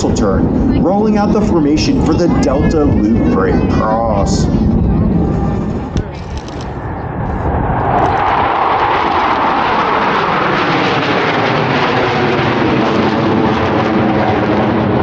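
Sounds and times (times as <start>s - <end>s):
jets flying past: 0.0s - 15.0s.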